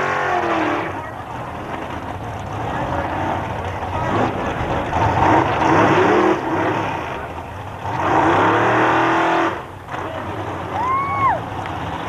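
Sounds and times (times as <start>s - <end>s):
drag car engine revving: 0.0s - 12.0s.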